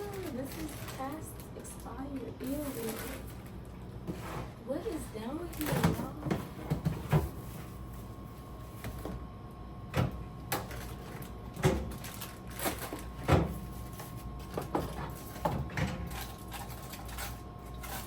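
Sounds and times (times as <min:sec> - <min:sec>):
faint refrigerator hum: 0:00.0 - 0:18.0.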